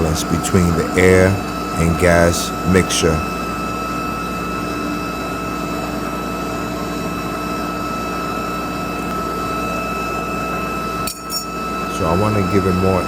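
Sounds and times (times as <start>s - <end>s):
gas burner and blower roaring: 0.0s - 13.0s.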